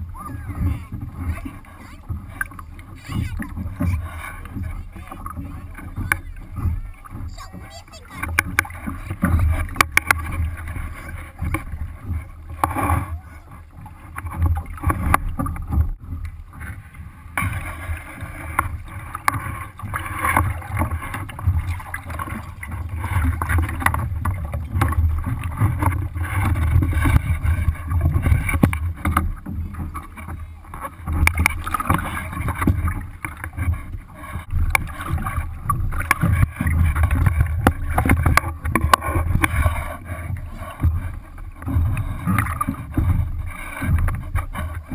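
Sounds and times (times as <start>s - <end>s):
water lapping against a hull: 0.0s - 44.9s.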